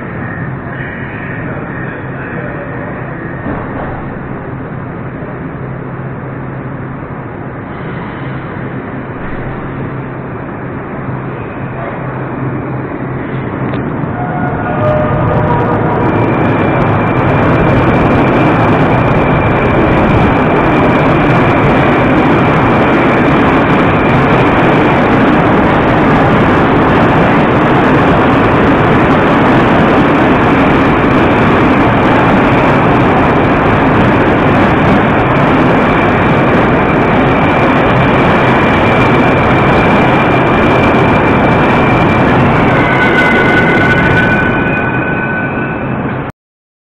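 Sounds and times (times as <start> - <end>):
high steady whine: 0.0 - 46.3
train wheels rumbling: 0.0 - 46.3.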